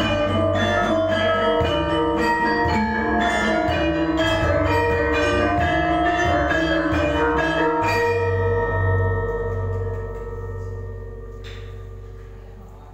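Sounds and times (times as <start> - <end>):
metallophones and gong-chimes: 0.0 - 12.7
large gong stroke humming: 0.0 - 12.8.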